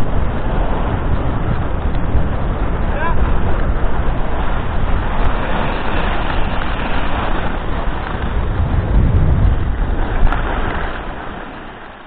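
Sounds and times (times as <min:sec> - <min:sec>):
skis scraping on snow: 0:00.0 - 0:12.0
wind rushing over microphone: 0:00.0 - 0:12.0.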